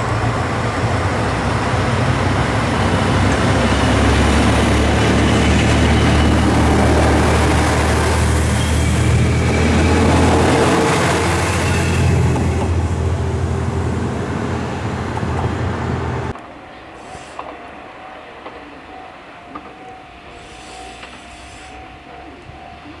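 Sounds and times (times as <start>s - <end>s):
diesel railcar engine humming: 0.0s - 23.0s.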